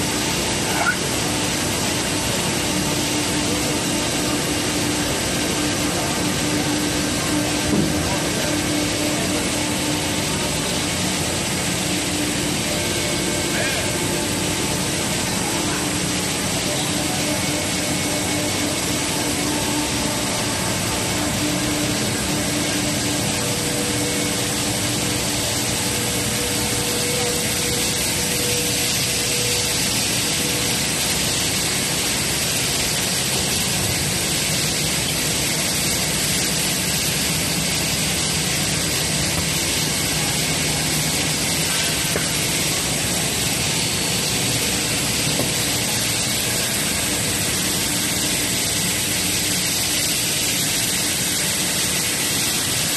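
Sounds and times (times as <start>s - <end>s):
machinery hiss: 0.0s - 52.9s
motor hum: 0.0s - 52.9s.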